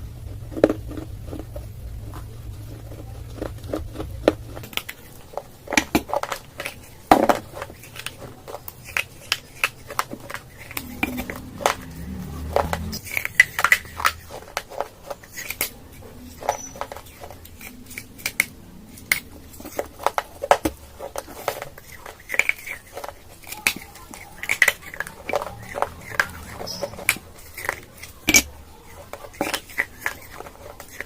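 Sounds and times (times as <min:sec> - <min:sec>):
crunching of baked clay chewed: 0:00.0 - 0:31.0.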